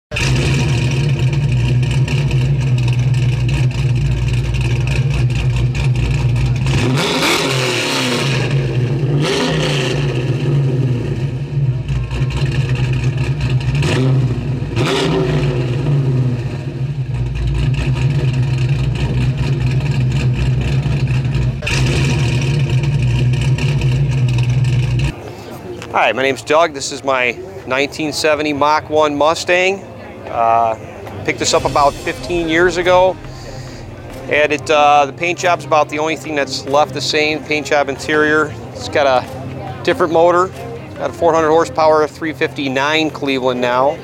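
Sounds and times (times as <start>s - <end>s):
car engine idling and revving: 0.1s - 25.2s, 31.5s - 44.0s.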